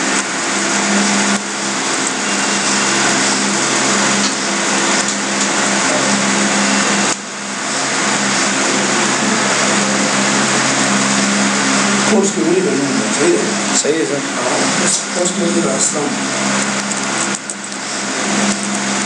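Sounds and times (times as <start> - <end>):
machine droning hum with hiss: 0.0 - 19.0.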